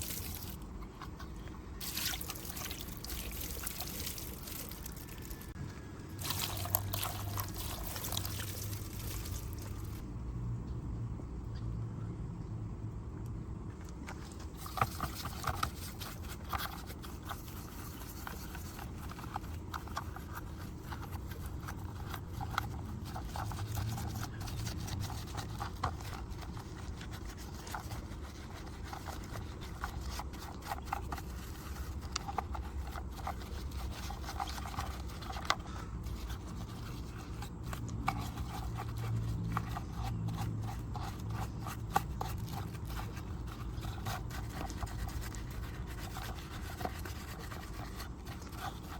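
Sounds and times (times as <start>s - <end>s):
brush scrubbing model car: 0.0s - 10.0s, 14.2s - 48.9s
low steady hum: 0.0s - 48.9s.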